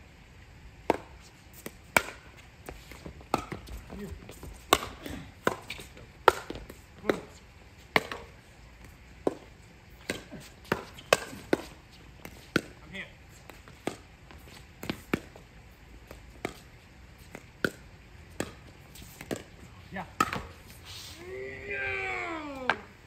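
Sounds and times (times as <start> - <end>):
ball bouncing: 0.9 - 12.9, 13.5 - 15.4, 16.0 - 20.6
paddles striking pickleball: 0.9 - 15.4, 16.0 - 20.7.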